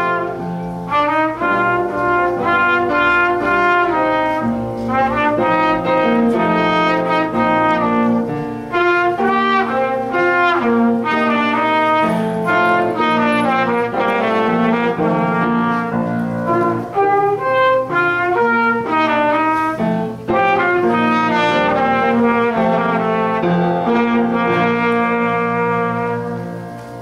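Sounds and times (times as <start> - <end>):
solo trumpet melody: 0.0 - 27.0.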